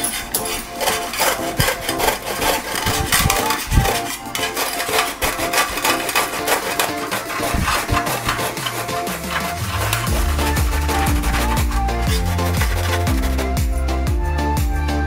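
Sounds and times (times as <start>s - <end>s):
gourd rasping on a grater: 0.0s - 13.6s.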